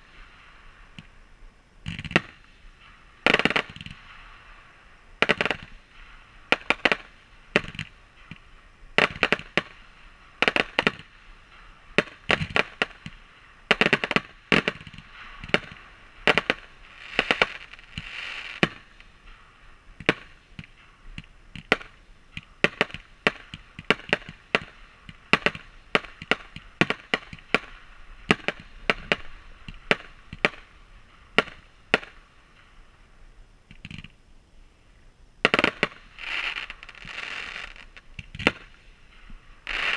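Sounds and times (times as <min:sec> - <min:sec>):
fireworks bangs: 0:00.0 - 0:34.2, 0:35.4 - 0:39.9.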